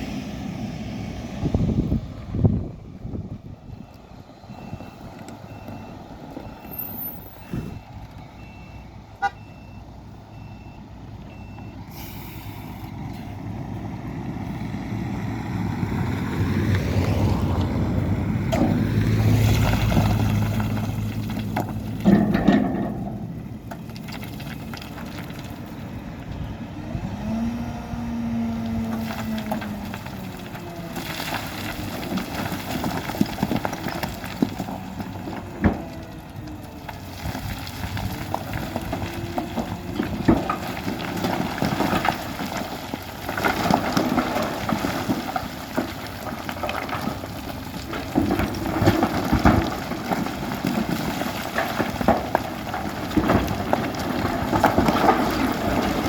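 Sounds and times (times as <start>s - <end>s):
heavy diesel machine engine: 0.0s - 56.0s.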